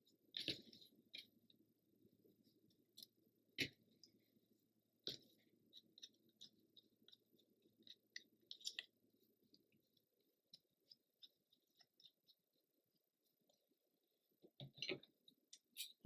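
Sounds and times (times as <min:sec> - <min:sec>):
small clicks and rustles: 0:00.0 - 0:16.0.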